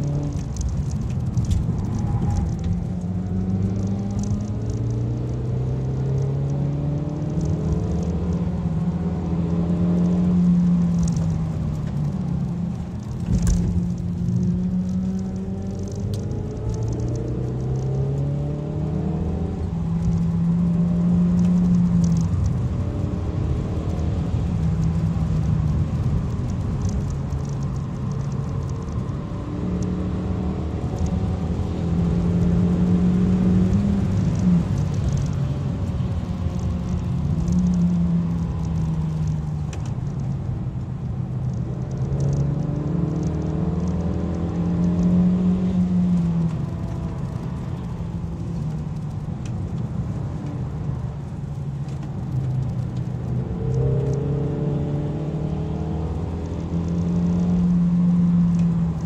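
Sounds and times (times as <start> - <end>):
car engine accelerating: 0.0 - 59.0
tyre and road rumble: 0.0 - 59.0.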